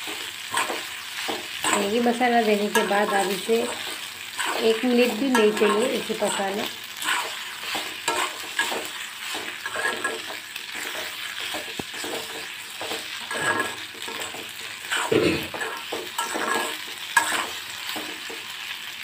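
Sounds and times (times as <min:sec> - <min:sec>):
metal spoon scraping pan: 0:00.0 - 0:18.5
light sizzle: 0:00.0 - 0:19.0.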